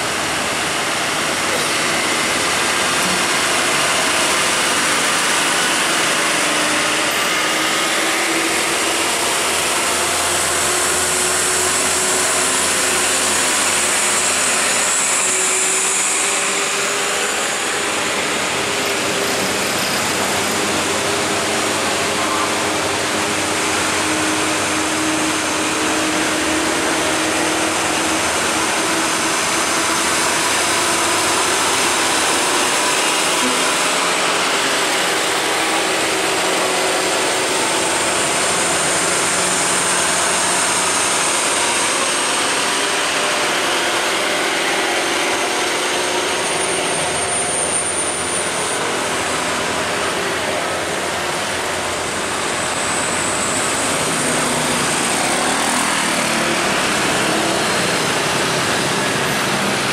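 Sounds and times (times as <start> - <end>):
diesel truck engines passing: 0.0 - 59.9.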